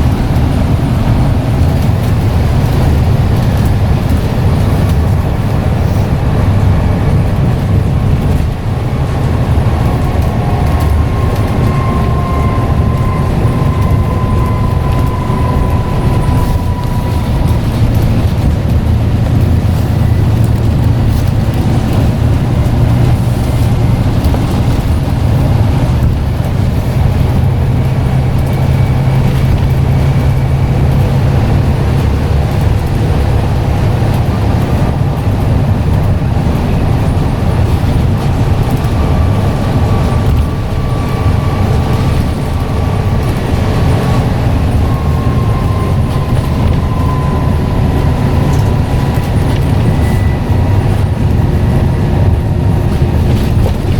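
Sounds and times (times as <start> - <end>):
bus engine low drone: 0.0 - 53.9.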